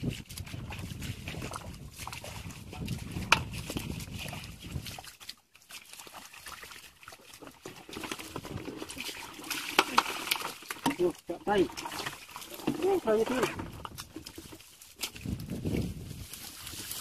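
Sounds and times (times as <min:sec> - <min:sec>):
mud and water squelching: 0:00.0 - 0:17.0.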